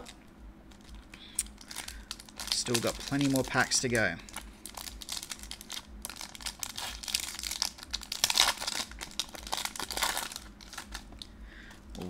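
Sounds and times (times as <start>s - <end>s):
foil wrapper crinkling: 0.7s - 11.3s.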